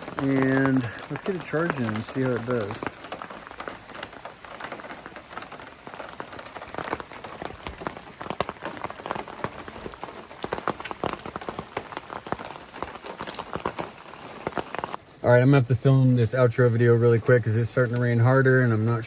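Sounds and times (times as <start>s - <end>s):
rain drops tapping: 0.0s - 15.0s, 15.8s - 19.0s
rain hiss: 0.0s - 19.0s.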